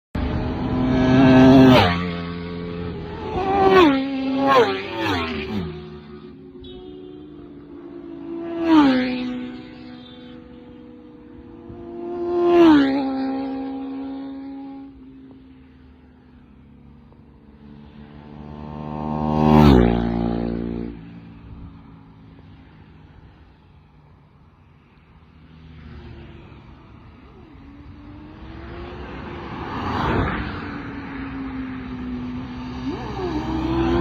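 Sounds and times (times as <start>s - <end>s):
superbikes passing at speed: 0.2s - 34.0s.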